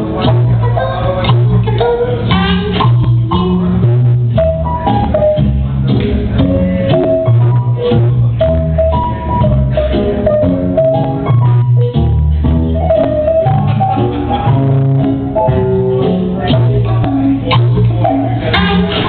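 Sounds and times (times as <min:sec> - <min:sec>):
recorded song with drums: 0:00.0 - 0:19.0.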